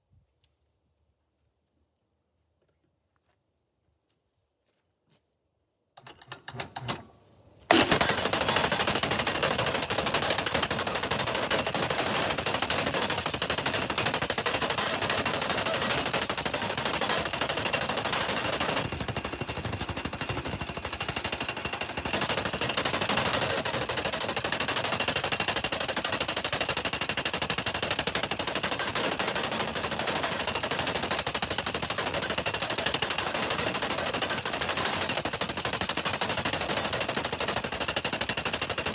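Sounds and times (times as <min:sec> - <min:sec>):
jackhammer pounding log: 0:07.7 - 0:38.9.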